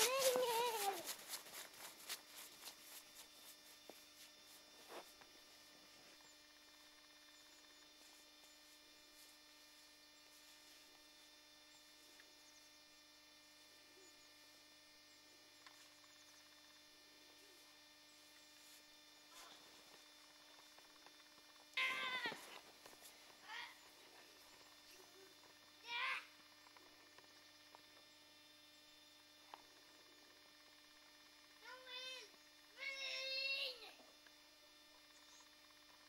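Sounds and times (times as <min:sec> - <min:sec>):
faint electrical hum: 0:00.0 - 0:36.0.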